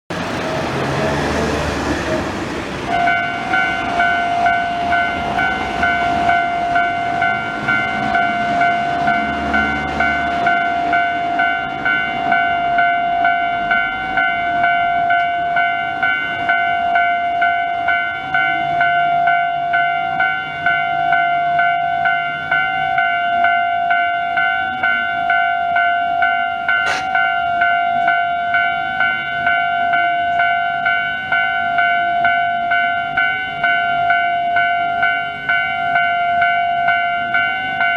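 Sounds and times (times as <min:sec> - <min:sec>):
level crossing alarm ringing: 0:02.8 - 0:37.9.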